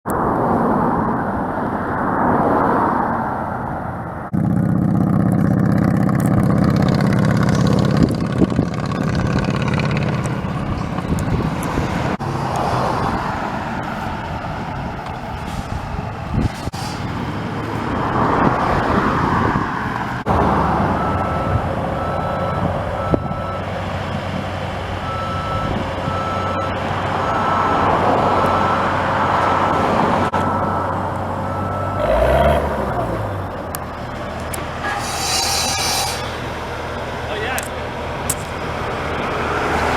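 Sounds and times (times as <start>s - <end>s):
vehicles passing: 0.0s - 39.9s
heavy engine running low: 4.3s - 39.9s
truck backup alarm beeping: 5.9s - 17.8s, 19.0s - 39.9s.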